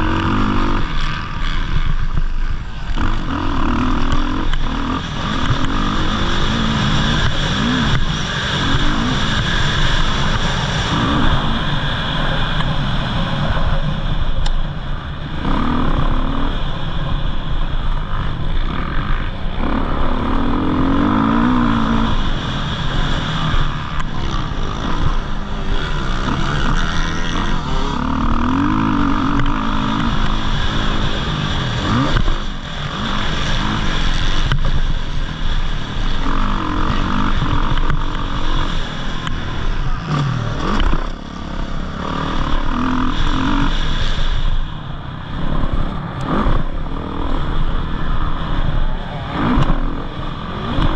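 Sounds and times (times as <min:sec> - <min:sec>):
dirt bike engines revving: 0:00.0 - 0:50.9
steady low rumble: 0:00.0 - 0:50.9.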